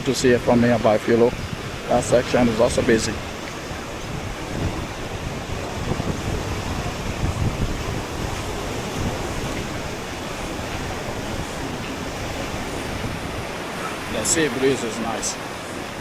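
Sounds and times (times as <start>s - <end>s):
ocean surf on beach: 0.0s - 16.0s
wind buffeting microphone: 0.0s - 16.0s.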